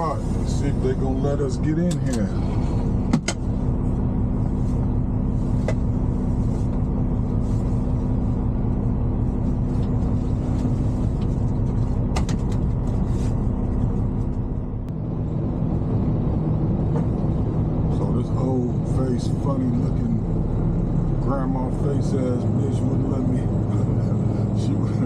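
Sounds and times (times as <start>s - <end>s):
truck diesel engine idling: 0.0s - 25.0s.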